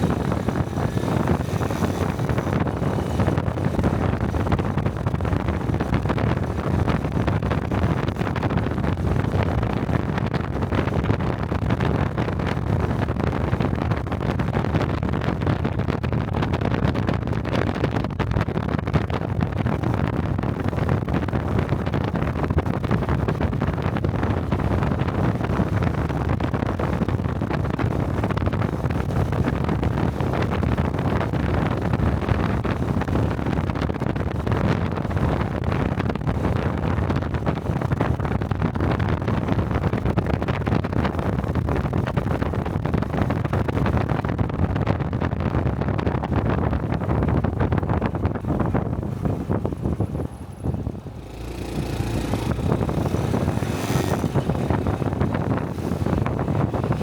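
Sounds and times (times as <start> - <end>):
motorcycle engine running: 0.0 - 44.8, 46.2 - 57.0
wind rushing over microphone: 0.0 - 57.0.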